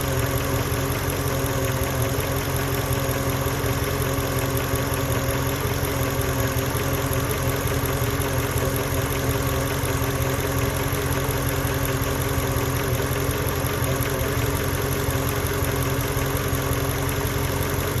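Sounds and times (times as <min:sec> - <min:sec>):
car engine idling roughly: 0:00.0 - 0:18.0.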